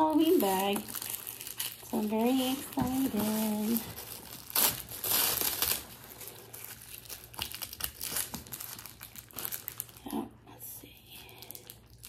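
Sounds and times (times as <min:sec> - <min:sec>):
plastic wrapping crinkling: 0:00.0 - 0:10.5, 0:11.2 - 0:12.0.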